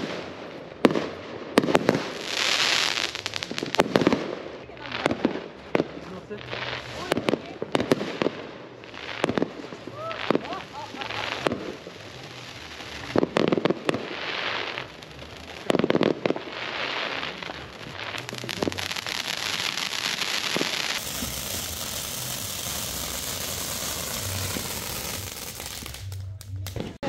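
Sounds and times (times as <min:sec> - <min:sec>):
firecracker bangs: 0:00.0 - 0:12.3, 0:15.6 - 0:27.0
firework fountain hissing and crackling: 0:00.0 - 0:27.0.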